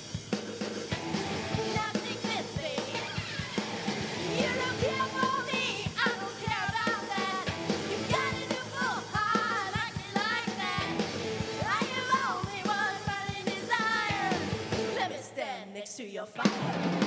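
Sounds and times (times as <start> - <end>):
live band playing: 0.0 - 15.0, 16.4 - 17.0
drum kit beat: 0.0 - 15.1
choir singing rock song: 0.8 - 15.5, 16.4 - 17.0.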